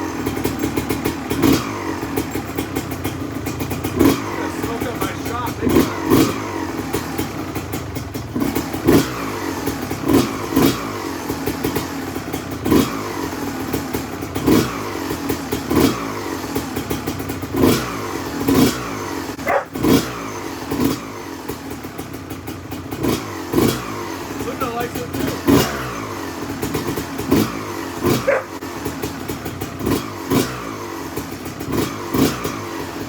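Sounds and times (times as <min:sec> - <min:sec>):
two-stroke engine idling and revving: 0:00.0 - 0:33.0.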